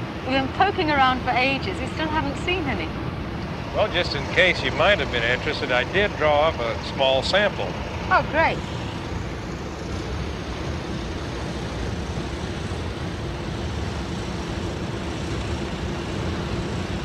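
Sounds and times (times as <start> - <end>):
machinery low hum: 0.0 - 17.0.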